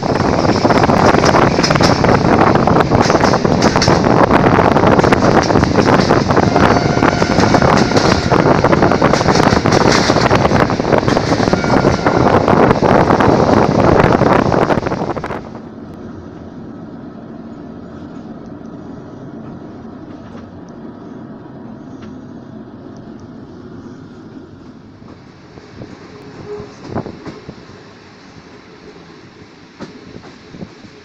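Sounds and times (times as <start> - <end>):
wind buffeting microphone: 0.0 - 16.6, 17.8 - 31.0
train wheels rumbling on track: 0.0 - 31.0.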